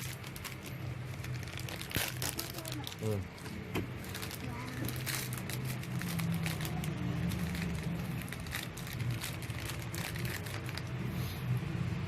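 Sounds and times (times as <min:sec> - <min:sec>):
toy packaging crinkling: 0:00.0 - 0:11.0.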